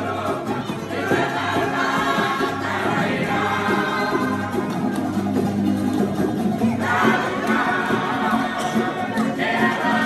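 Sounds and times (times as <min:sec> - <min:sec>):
group singing: 0:00.0 - 0:10.0
strummed ukuleles and guitars: 0:00.0 - 0:10.0.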